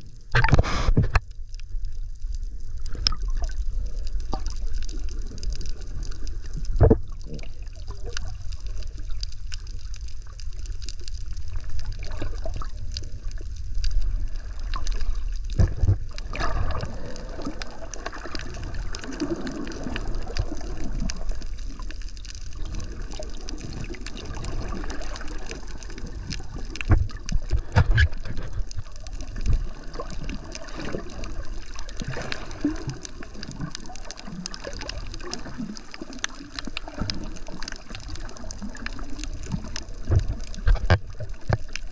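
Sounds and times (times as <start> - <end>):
underwater water rumble: 0.0 - 41.9.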